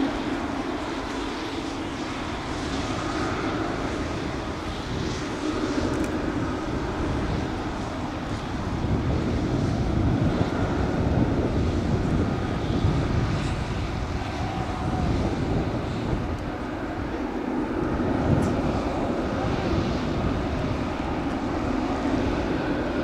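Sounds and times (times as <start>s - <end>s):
jet engine rumble and hiss: 0.0s - 23.0s.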